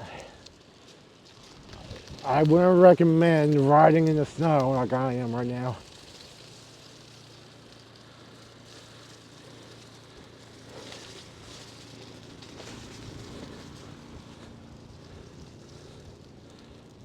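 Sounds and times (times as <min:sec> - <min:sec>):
bicycle tyres rolling over snow: 0:00.0 - 0:17.0.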